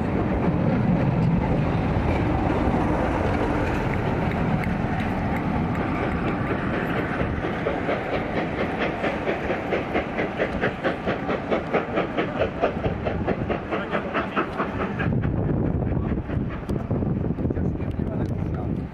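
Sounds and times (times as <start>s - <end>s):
train rumble: 0.0s - 18.9s
train wheels clicking over rail joints: 0.0s - 18.9s.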